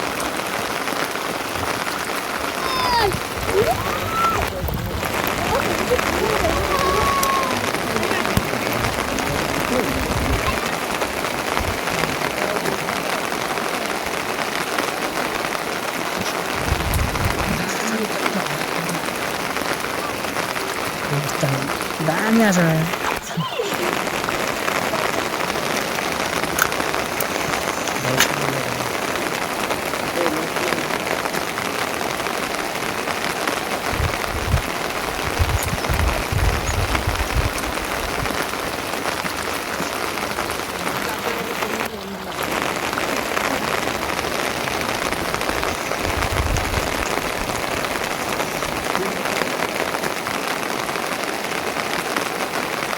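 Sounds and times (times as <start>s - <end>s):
faint voices: 0.0s - 52.1s
heavy rain: 0.0s - 52.9s.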